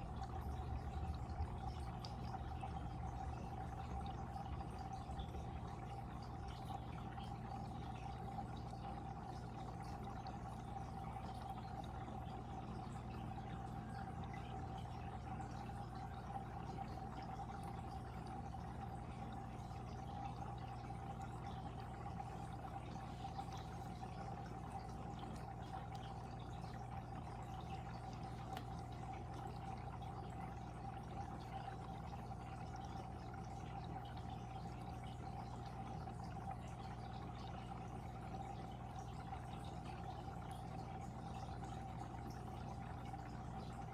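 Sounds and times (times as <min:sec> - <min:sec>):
steady low hum: 0:00.0 - 0:43.9
water pouring into fish tank: 0:00.0 - 0:43.9.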